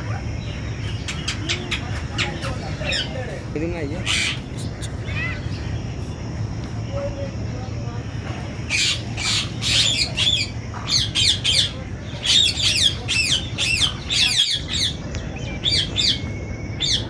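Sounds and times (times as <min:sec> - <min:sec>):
birds squawking: 0:00.0 - 0:06.4, 0:08.5 - 0:17.0.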